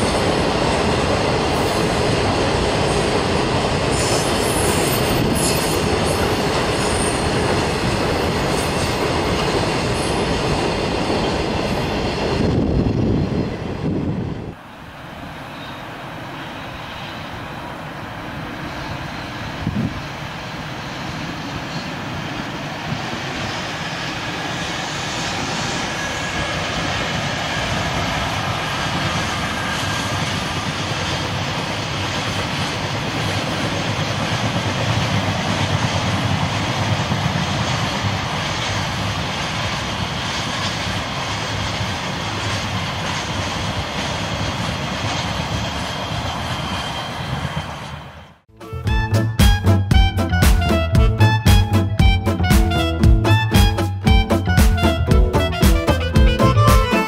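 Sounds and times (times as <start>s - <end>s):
distant freight train rumble: 0.0s - 57.0s.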